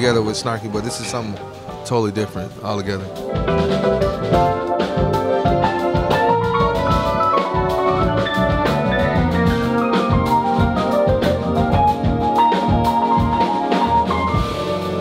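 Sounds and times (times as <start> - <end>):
busy drum kit: 0.0 - 15.0
keyboard notes: 0.0 - 15.0.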